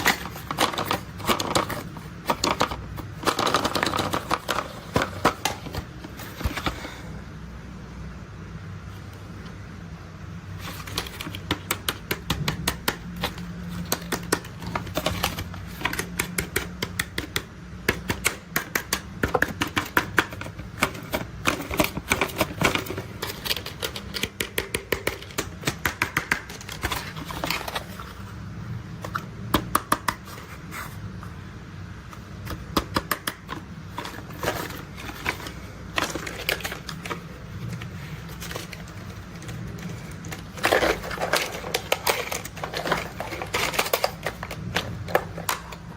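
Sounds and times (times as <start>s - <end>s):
plastic toy clicks and clatters: 0.0s - 6.8s, 10.6s - 28.0s, 32.5s - 45.9s.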